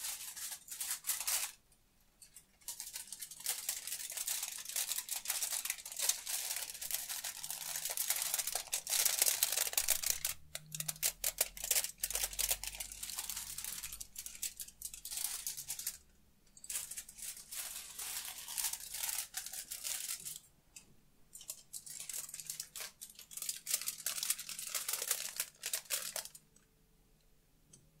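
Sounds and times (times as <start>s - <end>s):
aluminum foil crinkling: 0.0s - 20.5s, 21.4s - 26.4s.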